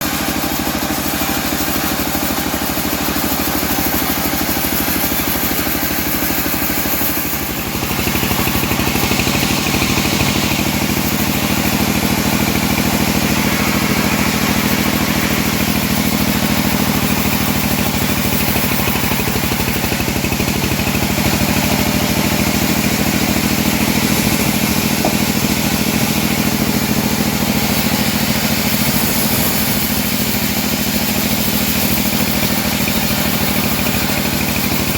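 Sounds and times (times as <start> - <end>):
sawmill engine sawing log: 0.0 - 34.9.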